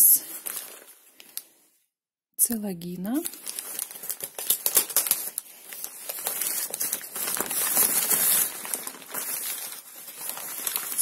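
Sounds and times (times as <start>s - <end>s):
paper wrapping crinkling: 0.2s - 1.5s, 3.1s - 11.0s.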